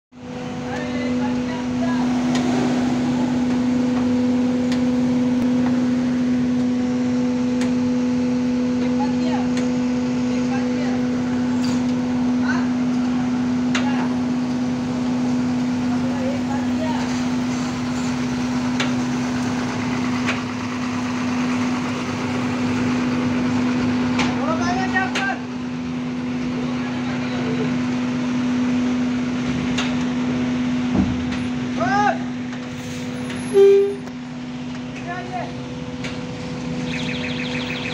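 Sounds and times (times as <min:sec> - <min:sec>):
hydraulic machinery humming: 0:00.2 - 0:37.9.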